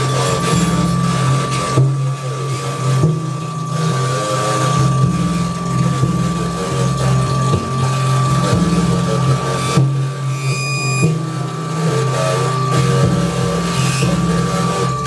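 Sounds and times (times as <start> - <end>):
harsh noise layer: 0.0 - 15.0
low buzzing drone: 0.0 - 15.0
steady high whine: 0.0 - 15.0.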